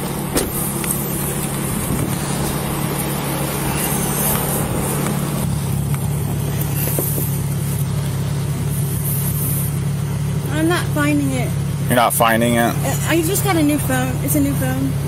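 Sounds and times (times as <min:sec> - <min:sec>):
car engine idling: 0:00.0 - 0:15.0
roadside noise: 0:00.0 - 0:15.0.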